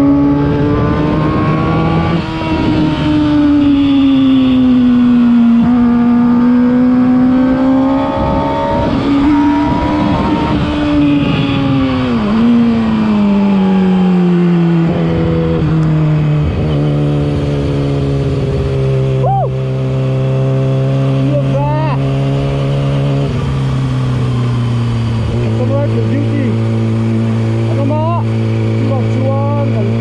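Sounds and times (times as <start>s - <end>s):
motorcycle engine under way: 0.0s - 30.0s
rushing wind: 0.0s - 30.0s.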